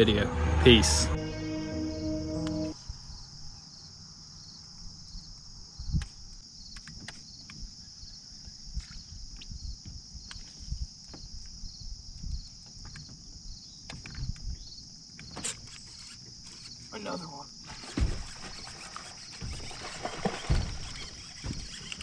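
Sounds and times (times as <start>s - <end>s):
insects chorus: 2.7s - 22.0s.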